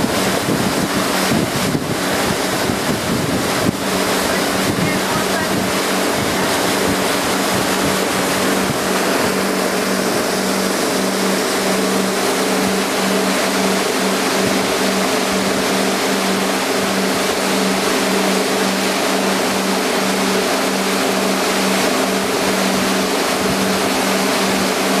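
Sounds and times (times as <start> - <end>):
boat engine droning: 0.0 - 25.0
water rushing along hull: 0.0 - 25.0.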